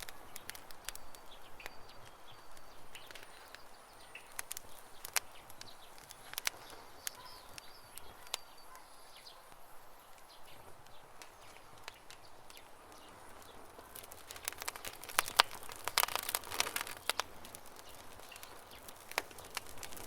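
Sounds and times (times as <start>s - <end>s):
fire pops: 0.0s - 8.7s, 9.5s - 20.0s
campfire crackling: 0.0s - 20.0s
small birds chirping: 0.0s - 20.0s.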